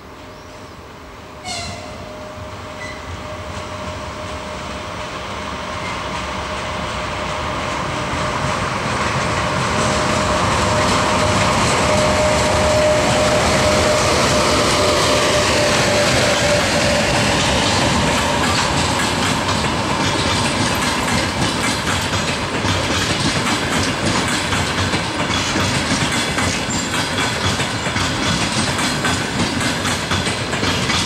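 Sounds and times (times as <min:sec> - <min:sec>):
electric locomotive passing: 0:00.0 - 0:31.0.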